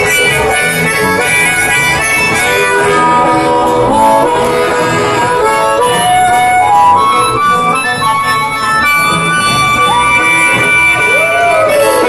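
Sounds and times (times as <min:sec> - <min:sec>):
harmonicas playing boogie-woogie: 0:00.0 - 0:12.0
low rhythmic accompaniment: 0:00.0 - 0:12.0.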